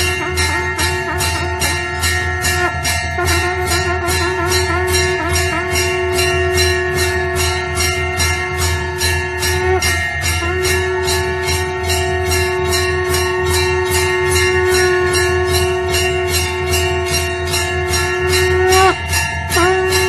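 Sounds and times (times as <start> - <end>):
held ringing tone: 0.0 - 20.0
temple bells ringing: 0.0 - 20.0.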